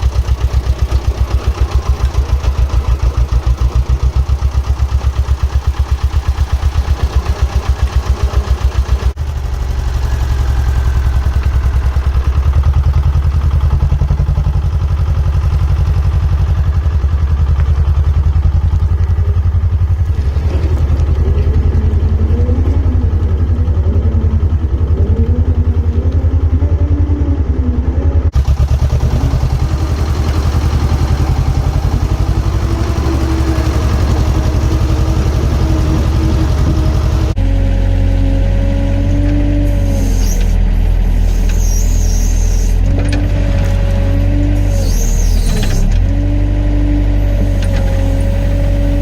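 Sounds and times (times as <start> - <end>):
diesel engine throbbing: 0.0 - 49.0.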